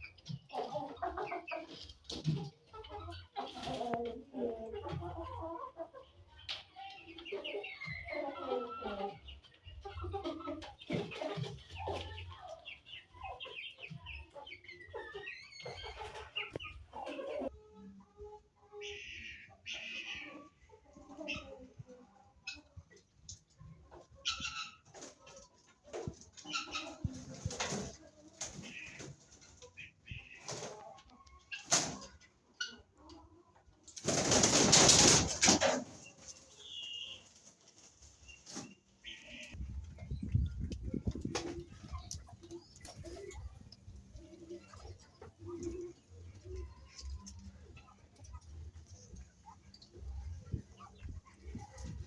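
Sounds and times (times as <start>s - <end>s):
birds: 0.0s - 52.0s
chickens clucking: 0.0s - 52.0s.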